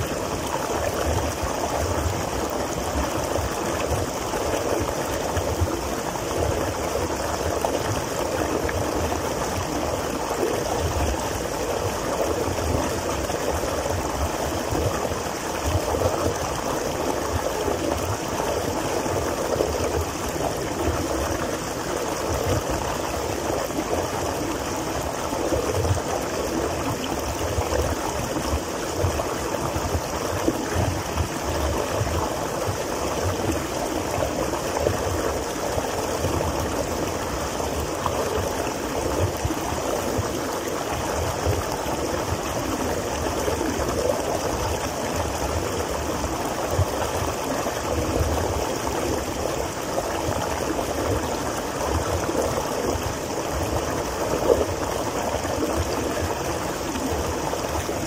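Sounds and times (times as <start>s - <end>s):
waterfall splashing into pool: 0.0s - 58.0s.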